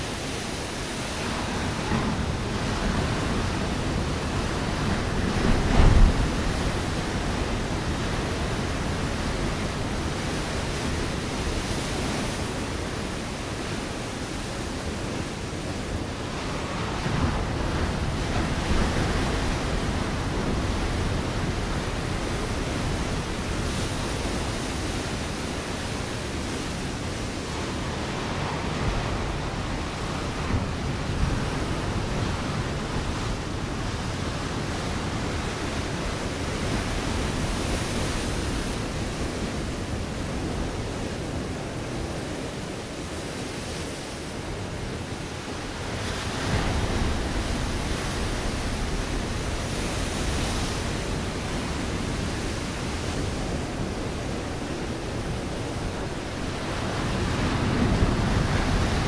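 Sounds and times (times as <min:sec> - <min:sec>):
waves breaking on rocky shore: 0:00.0 - 0:59.0.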